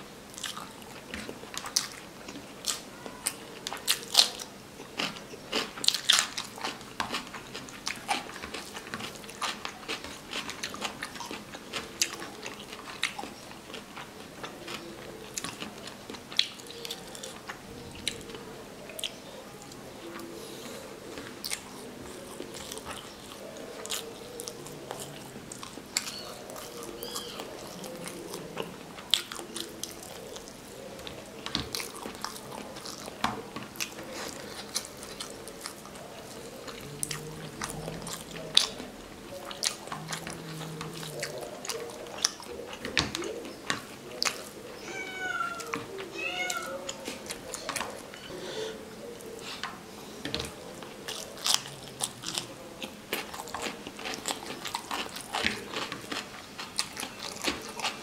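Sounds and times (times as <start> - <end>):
chewing with lip smacks: 0.3 - 44.6, 45.6 - 58.0.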